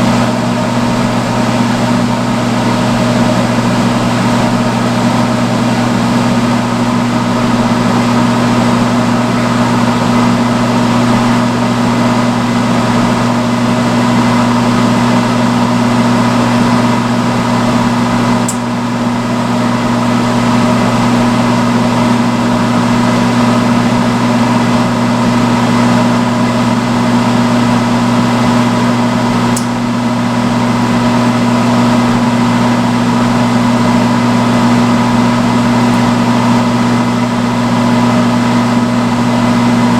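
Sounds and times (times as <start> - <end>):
hood hair dryer blowing: 0.0 - 39.9.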